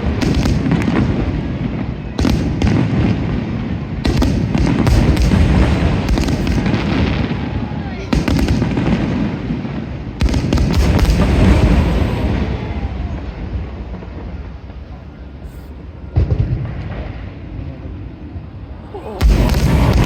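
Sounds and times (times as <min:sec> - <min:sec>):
fireworks bursting: 0:00.0 - 0:20.0
fireworks crackling: 0:00.0 - 0:20.0
rumble of fireworks: 0:00.0 - 0:20.0.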